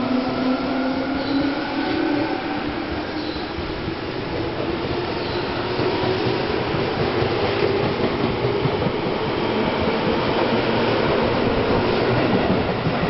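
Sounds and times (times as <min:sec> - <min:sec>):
electric train wheels rumbling on rail: 0:00.0 - 0:13.0.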